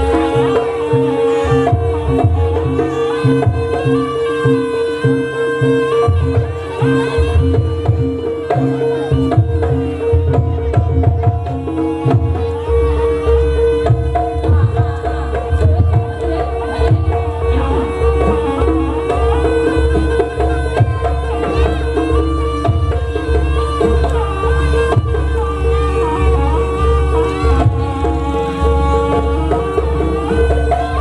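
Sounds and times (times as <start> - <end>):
hand drums playing quick rhythm: 6.1 - 31.0.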